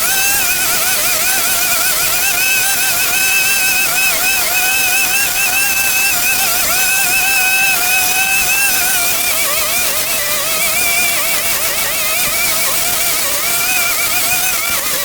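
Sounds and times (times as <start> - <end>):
small gasoline engine whining: 0.0 - 15.0.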